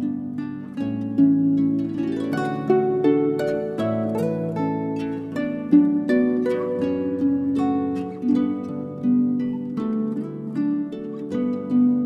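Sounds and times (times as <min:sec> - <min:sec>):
plucked-string notes: 0:00.0 - 0:12.0.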